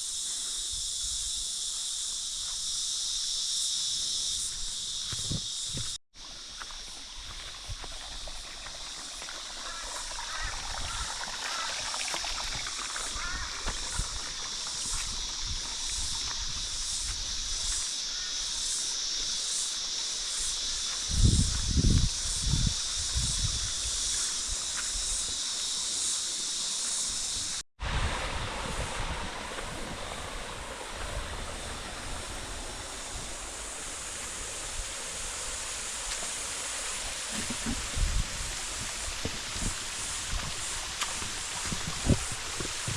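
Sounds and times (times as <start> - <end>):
pulsing high hiss: 0.0 - 42.9.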